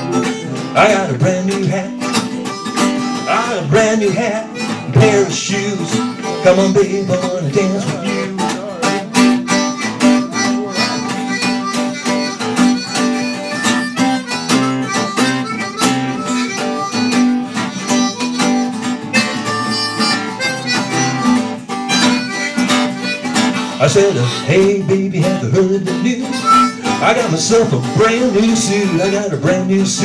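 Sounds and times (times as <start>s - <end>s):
acoustic guitar strumming: 0.0s - 30.0s
harmonica holding notes: 0.0s - 30.0s.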